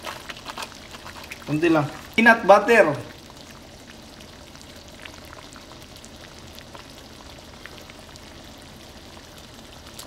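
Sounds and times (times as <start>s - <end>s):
broth and oil sizzling in wok: 0.0s - 10.0s.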